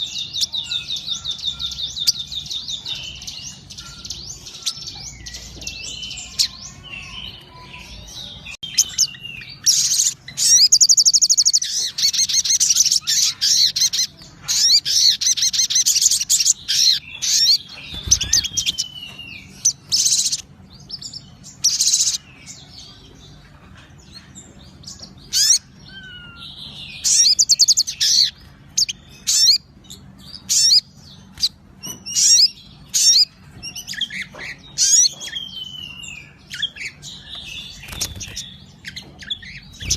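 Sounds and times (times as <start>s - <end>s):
songbird trilling and whistling: 0.0s - 23.0s, 24.8s - 39.9s.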